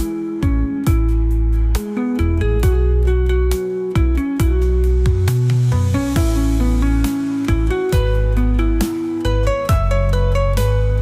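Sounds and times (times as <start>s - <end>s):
deep bass line: 0.0s - 11.0s
plucked guitar notes: 0.0s - 11.0s
steady beat: 0.0s - 11.0s.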